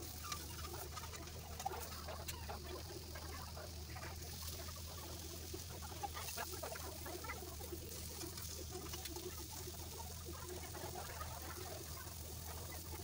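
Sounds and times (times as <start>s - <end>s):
kebabs sizzling in oil: 0.0s - 13.0s.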